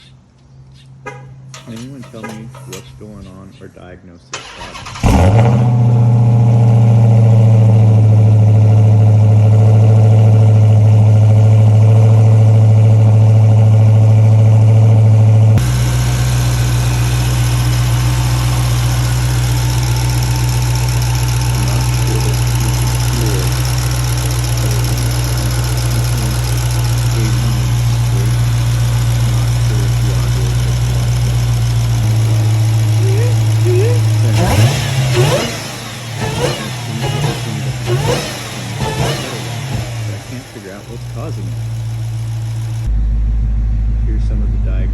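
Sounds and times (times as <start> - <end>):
car engine idling: 0.8 - 44.9.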